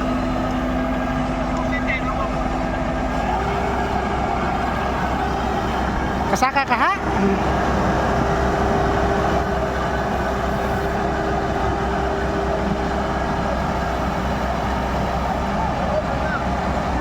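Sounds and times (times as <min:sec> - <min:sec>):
combine harvester diesel engine: 0:00.0 - 0:17.0.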